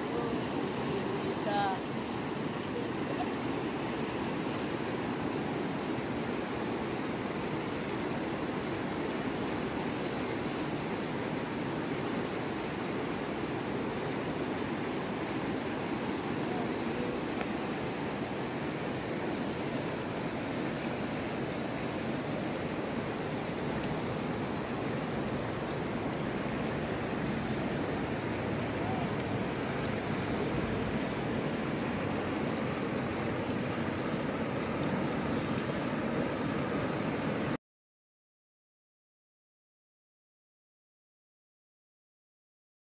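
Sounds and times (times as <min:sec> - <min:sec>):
river rushing over rocks: 0:00.0 - 0:37.6.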